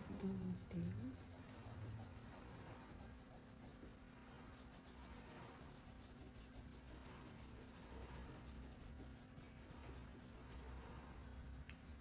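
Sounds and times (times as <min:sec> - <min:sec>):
crayon scratching on paper: 0:00.0 - 0:11.0
low steady hum: 0:00.0 - 0:12.0.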